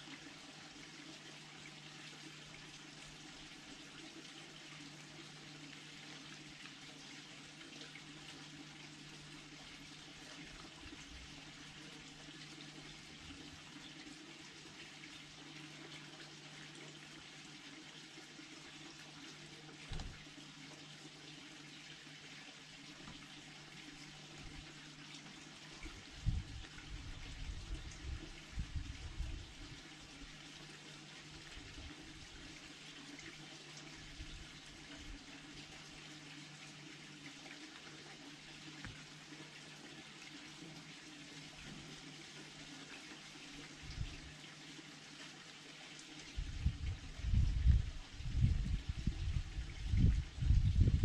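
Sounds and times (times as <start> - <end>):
low steady hum: 0.0 - 45.0, 46.2 - 51.0.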